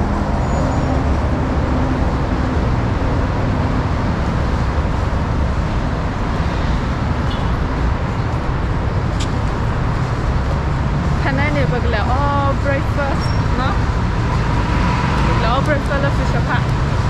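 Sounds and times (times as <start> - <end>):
road traffic hiss and hum: 0.0 - 17.0.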